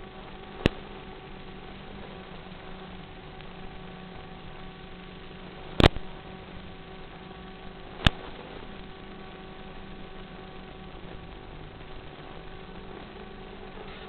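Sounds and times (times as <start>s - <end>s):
hiss and electrical hum: 0.0s - 14.0s.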